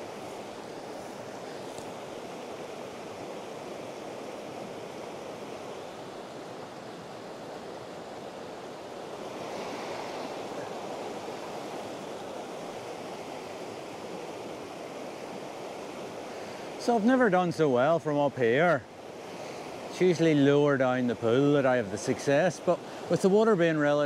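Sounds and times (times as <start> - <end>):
river water rushing over stones: 0.0 - 24.0.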